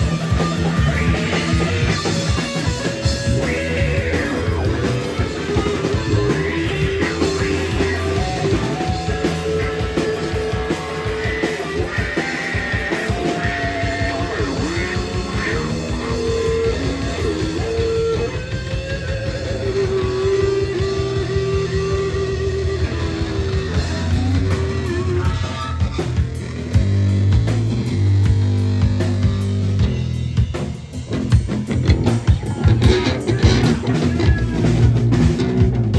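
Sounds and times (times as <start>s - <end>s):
electric guitar melody: 0.0s - 35.9s
rock band playing: 0.0s - 35.9s.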